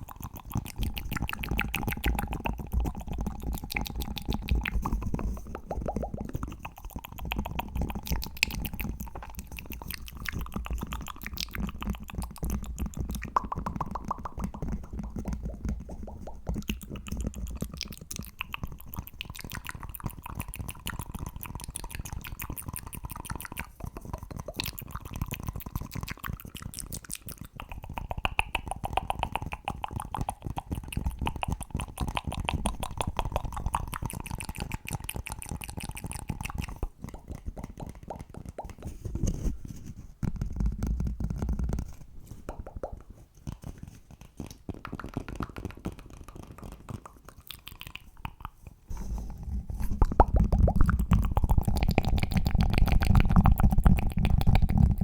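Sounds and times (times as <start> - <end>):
fast continuous tapping: 0.0 - 38.9, 40.2 - 48.4, 49.9 - 55.0
mouth sounds: 0.0 - 39.6, 40.4 - 55.0.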